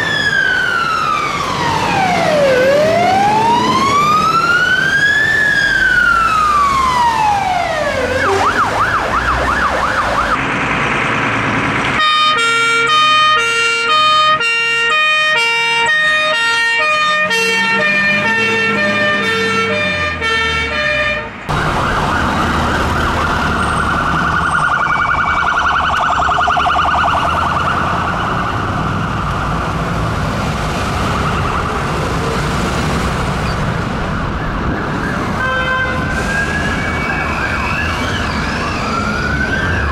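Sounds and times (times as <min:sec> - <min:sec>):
fire engine sirens: 0:00.0 - 0:39.9
road and engine noise: 0:00.0 - 0:39.9.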